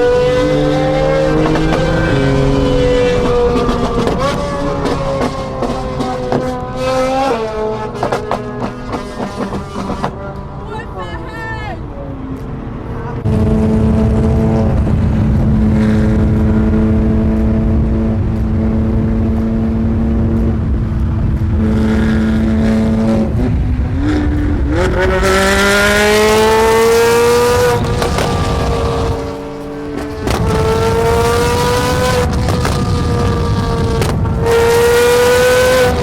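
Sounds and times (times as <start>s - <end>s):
sports car engine revving: 0.0s - 11.2s, 11.8s - 36.0s.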